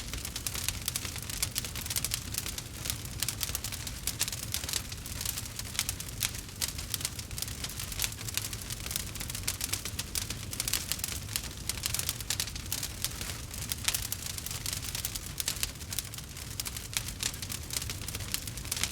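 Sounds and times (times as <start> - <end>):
campfire crackling and popping: 0.0 - 18.9.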